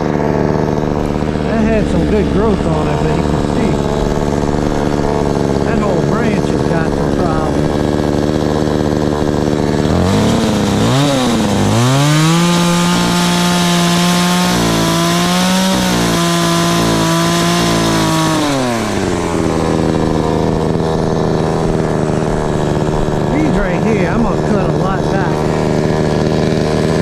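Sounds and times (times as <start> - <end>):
chainsaw cutting through limb: 0.0 - 27.0
chainsaw idling and revving: 0.0 - 27.0.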